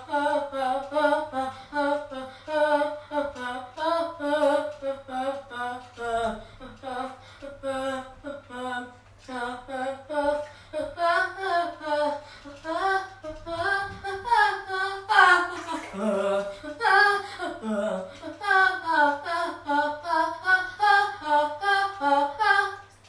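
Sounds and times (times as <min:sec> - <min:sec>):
high voice singing: 0:00.0 - 0:23.0.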